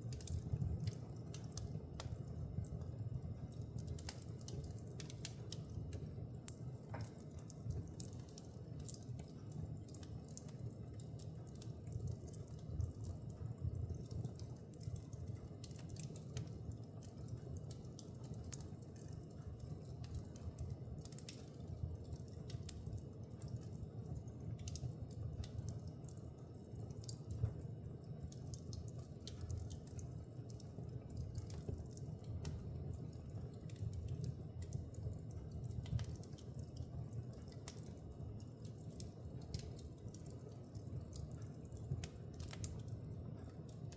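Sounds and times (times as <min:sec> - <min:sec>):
fire crackling: 0:00.0 - 0:43.9.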